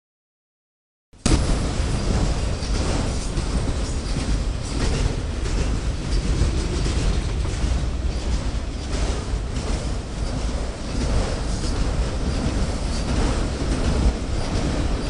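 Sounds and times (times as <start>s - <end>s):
train rumbling by: 1.2s - 15.0s
wheels clicking on rails: 1.2s - 15.0s.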